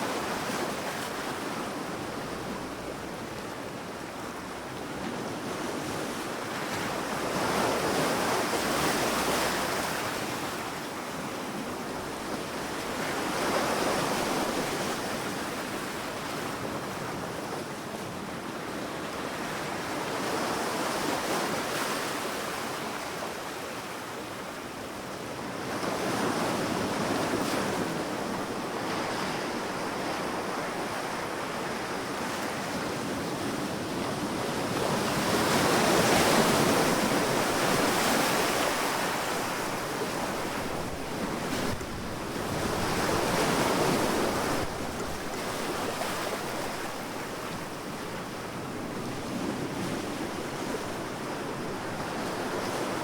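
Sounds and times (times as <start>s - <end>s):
ocean waves breaking on sand: 0.0s - 53.0s.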